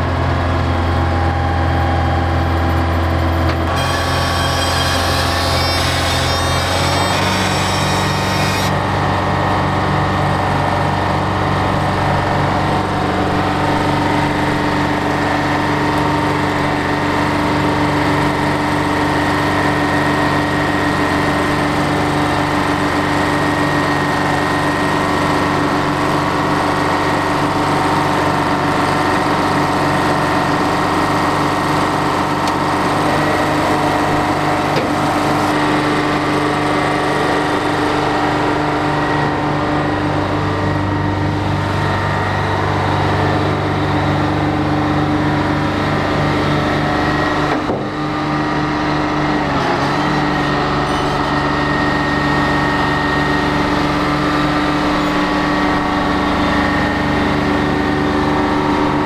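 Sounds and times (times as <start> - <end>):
heavy equipment engine running: 0.0 - 59.0.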